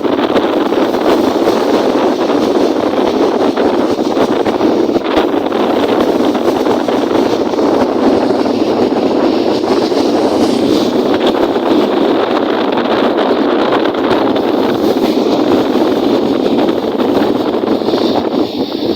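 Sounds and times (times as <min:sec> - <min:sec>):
lake waves washing: 0:00.0 - 0:18.9
wind blowing across microphone: 0:00.0 - 0:18.9.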